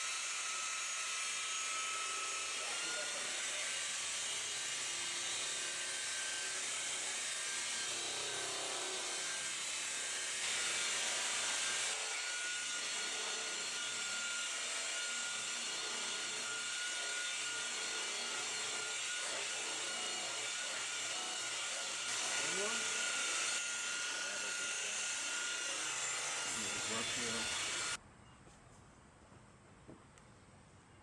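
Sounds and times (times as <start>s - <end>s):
power polisher running: 0.0s - 28.0s.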